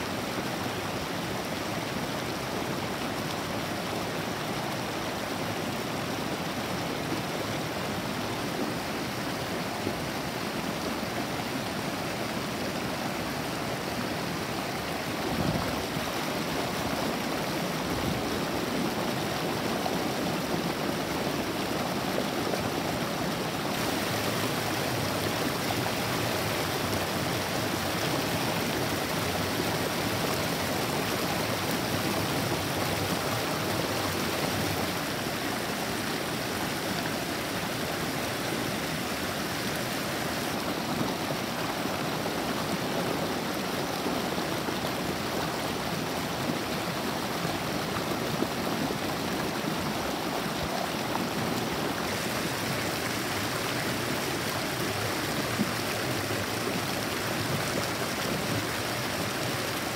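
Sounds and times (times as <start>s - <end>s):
stream water rushing over rocks: 0.0s - 59.9s.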